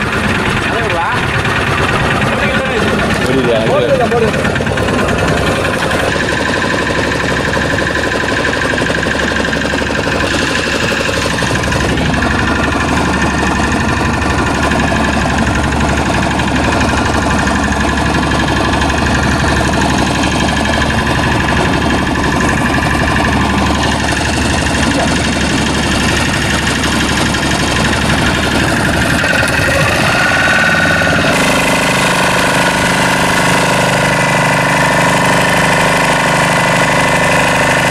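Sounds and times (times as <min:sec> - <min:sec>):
boat engine running: 0:00.0 - 0:37.9.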